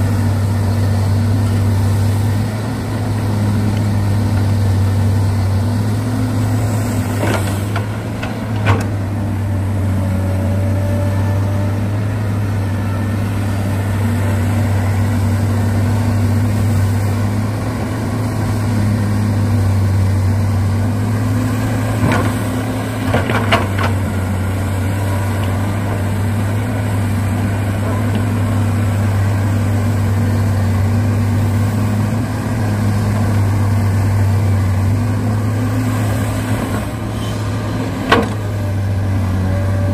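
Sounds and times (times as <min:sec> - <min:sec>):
excavator engine humming: 0:00.0 - 0:39.9.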